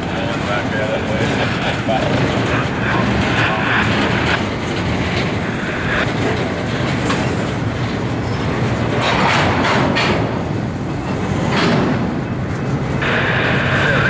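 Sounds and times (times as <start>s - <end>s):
freight train cars rumbling: 0.0s - 14.0s.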